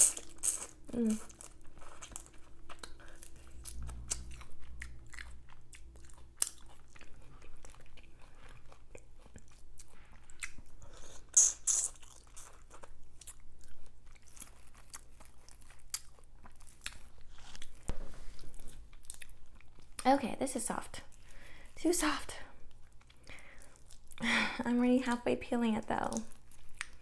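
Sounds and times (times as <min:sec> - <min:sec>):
chewing and crunching: 0:00.0 - 0:20.1, 0:22.7 - 0:24.2, 0:26.0 - 0:27.0.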